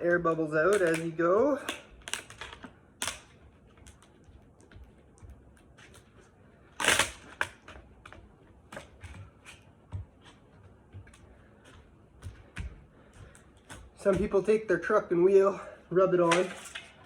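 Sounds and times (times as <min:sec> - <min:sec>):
hands scuffing grip tape: 0:00.2 - 0:14.6.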